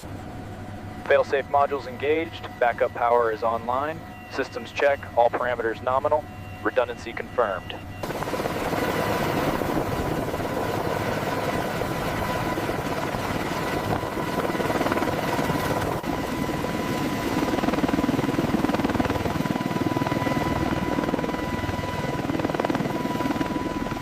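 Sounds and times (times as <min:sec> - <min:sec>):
helicopter rotor and engines: 0:00.0 - 0:24.0
high turbine whine: 0:00.0 - 0:24.0.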